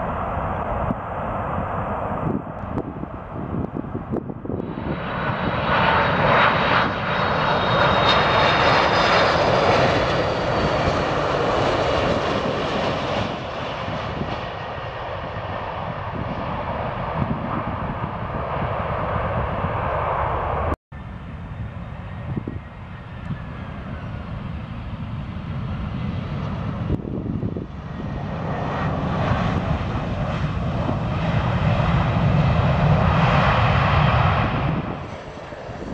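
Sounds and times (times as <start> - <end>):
jet engine roar with high whine: 0.0 - 35.9.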